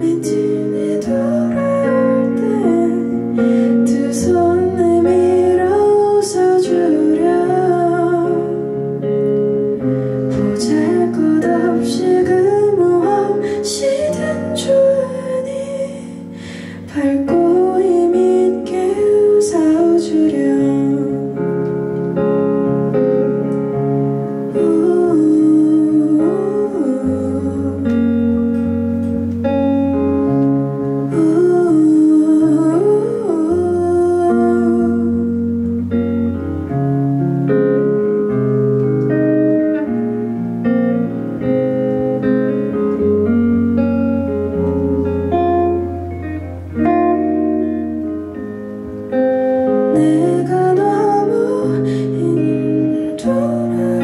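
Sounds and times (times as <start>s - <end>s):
acoustic pop band playing: 0.0s - 54.0s
sliding wordless melody line: 0.0s - 54.0s.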